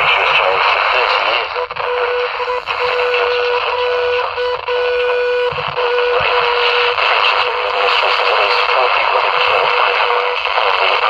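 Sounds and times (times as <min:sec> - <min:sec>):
radio static hiss: 0:00.0 - 0:11.0
steady whistle tone: 0:00.0 - 0:11.0.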